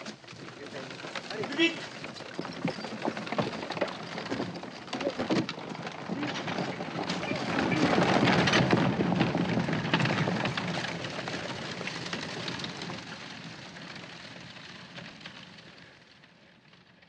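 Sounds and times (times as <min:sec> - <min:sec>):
carriage wheels rolling: 0:00.0 - 0:17.0
horse hooves on dirt road: 0:00.0 - 0:17.0.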